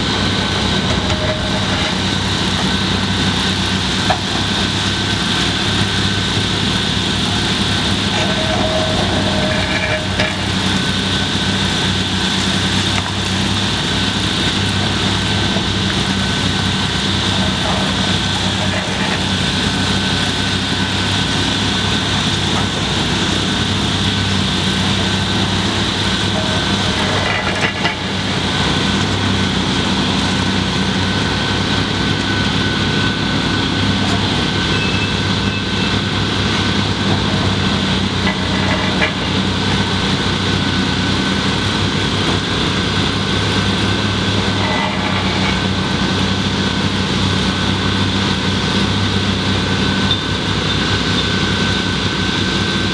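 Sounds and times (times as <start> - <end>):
diesel excavator engine drone: 0.0 - 52.9.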